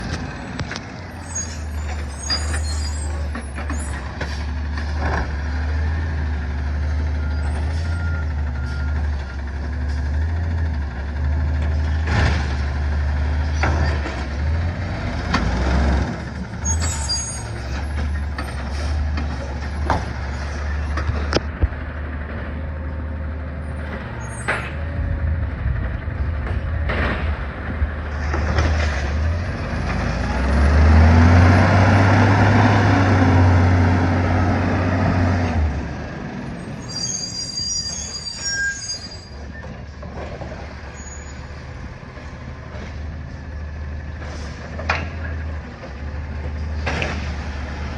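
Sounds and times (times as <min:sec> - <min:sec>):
truck engine rumbling: 0:00.0 - 0:47.9.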